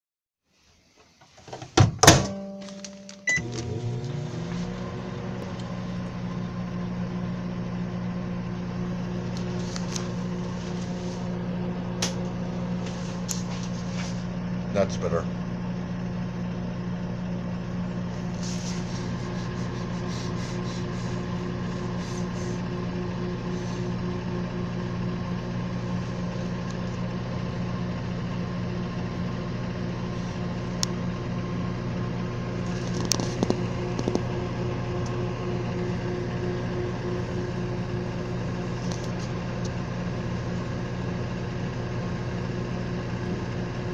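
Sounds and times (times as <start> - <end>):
microwave oven humming: 1.0 - 43.9.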